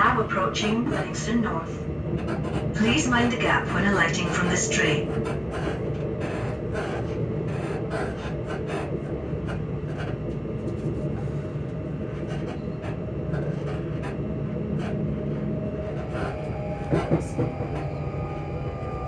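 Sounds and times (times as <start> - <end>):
train traction motors humming: 0.0 - 19.0.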